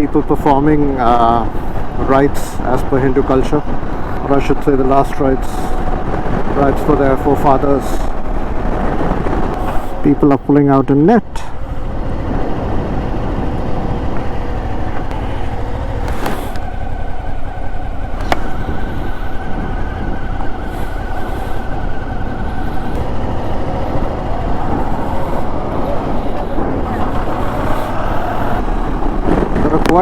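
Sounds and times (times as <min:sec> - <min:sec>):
motorcycle running: 0:00.0 - 0:30.0
wind buffeting microphone: 0:00.0 - 0:30.0.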